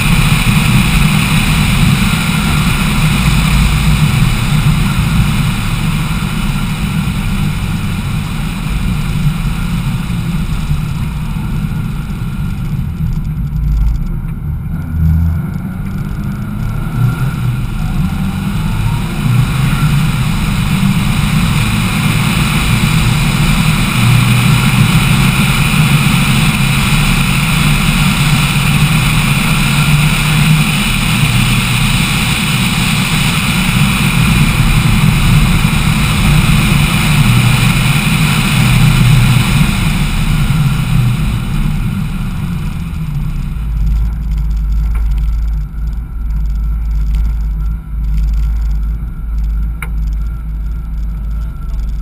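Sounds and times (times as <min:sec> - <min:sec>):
car engine running at speed: 0:00.0 - 0:52.0
low rumble: 0:00.0 - 0:52.0.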